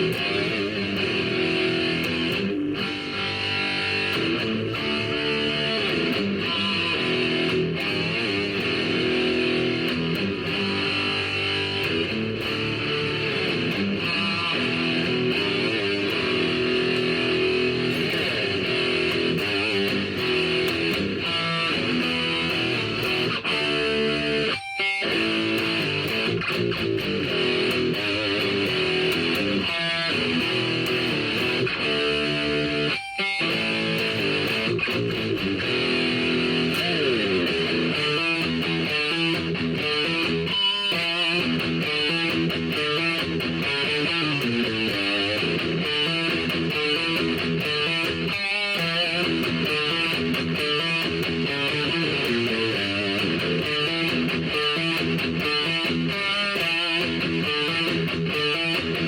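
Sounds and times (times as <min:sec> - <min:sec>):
guitar plucked notes: 0:00.0 - 0:59.0.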